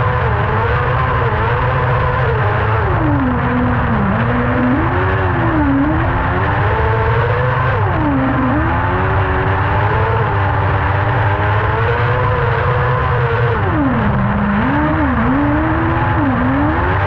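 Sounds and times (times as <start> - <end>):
kart engine revving: 0.0 - 17.0.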